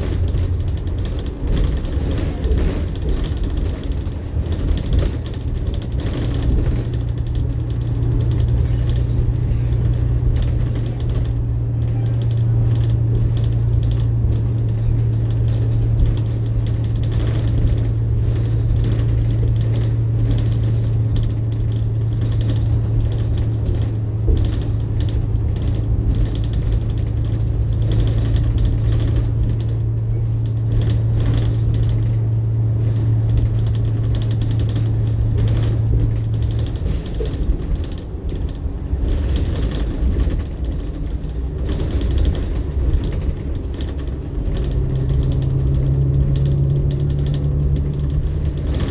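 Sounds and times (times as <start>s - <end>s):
bus body rattles and creaks: 0.0s - 48.9s
bus engine drone: 0.0s - 48.9s.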